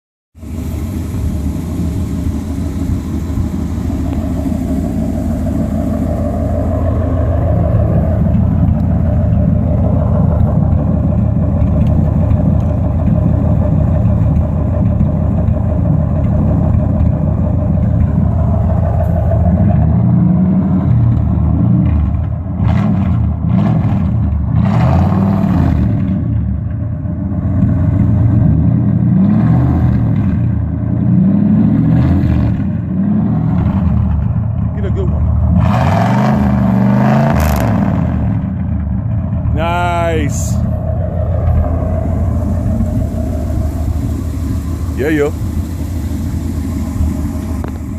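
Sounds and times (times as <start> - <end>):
car exhaust low rumble: 0.4 - 47.9.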